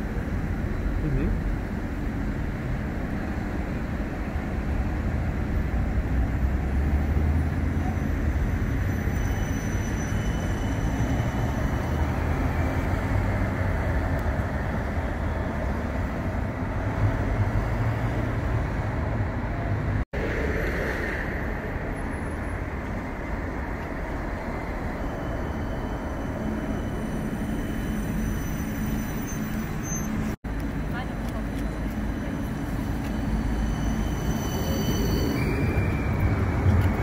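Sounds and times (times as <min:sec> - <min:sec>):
tram wheels rumbling: 0:00.0 - 0:37.0.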